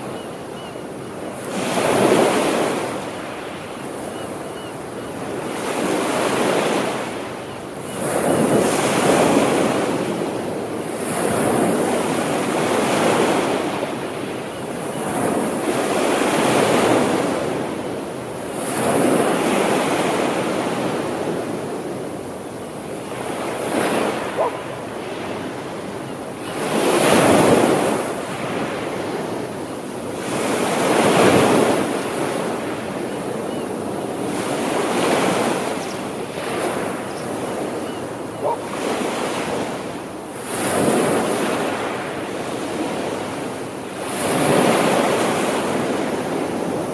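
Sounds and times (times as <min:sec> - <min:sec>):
sea waves breaking on shore: 0:00.0 - 0:46.9.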